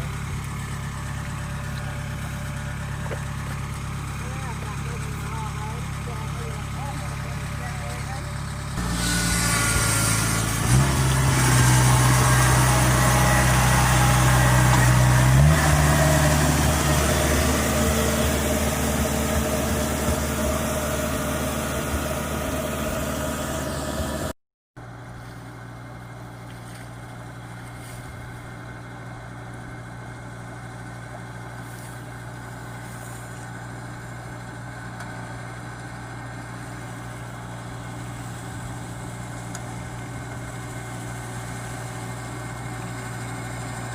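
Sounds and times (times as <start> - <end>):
combine harvester diesel engine: 0.0 - 43.9.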